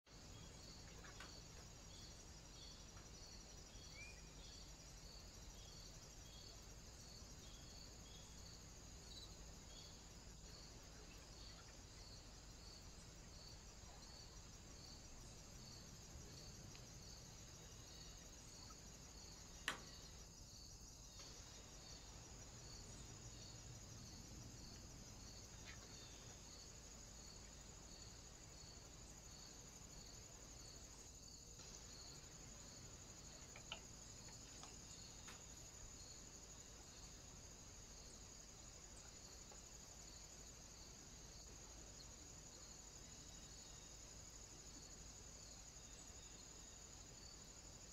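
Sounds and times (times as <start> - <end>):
crickets chirping: 0.1 - 47.9.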